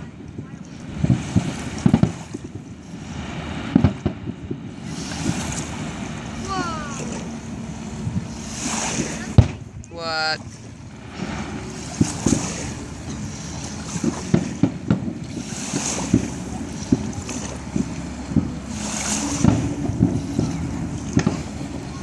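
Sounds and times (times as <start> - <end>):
distant fireworks booming: 0.0 - 9.7, 11.0 - 22.0
wind rumble on microphone: 0.0 - 22.0.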